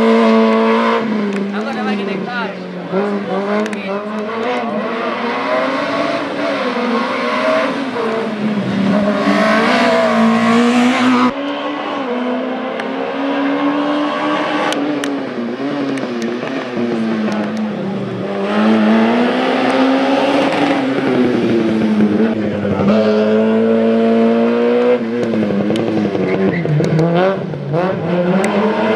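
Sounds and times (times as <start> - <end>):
race car engine revving: 0.0 - 28.9.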